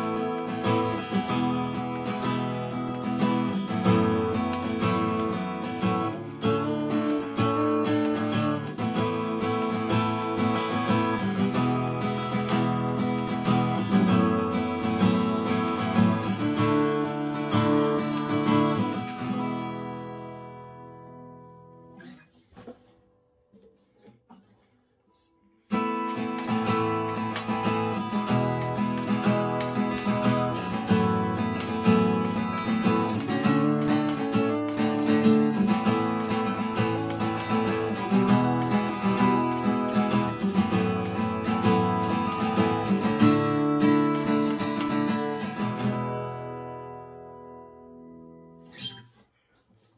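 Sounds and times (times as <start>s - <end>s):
acoustic guitar strummed chords: 0.0s - 22.2s, 25.2s - 49.1s.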